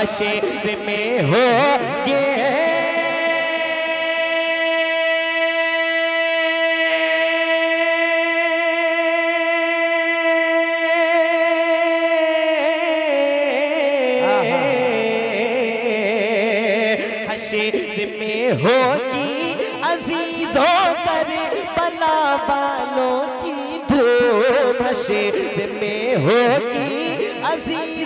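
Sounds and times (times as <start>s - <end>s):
man singing: 0.0s - 28.0s.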